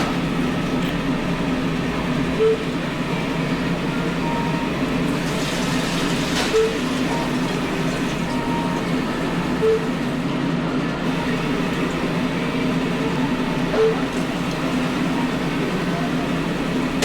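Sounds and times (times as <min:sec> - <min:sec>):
oven pump and motor humming: 0:00.0 - 0:17.0.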